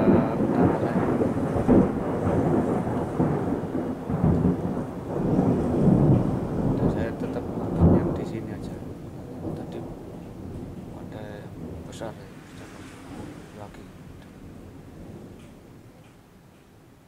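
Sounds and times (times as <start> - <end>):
rolling thunder: 0.0 - 16.4.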